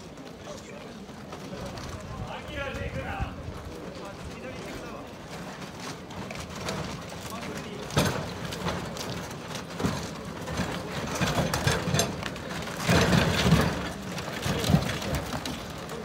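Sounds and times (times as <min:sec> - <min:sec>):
wooden wheels rumbling over tracks: 0:00.0 - 0:16.0.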